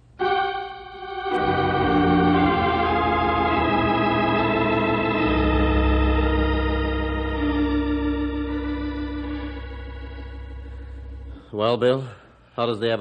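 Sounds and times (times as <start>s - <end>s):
organ chords: 0.0s - 12.3s.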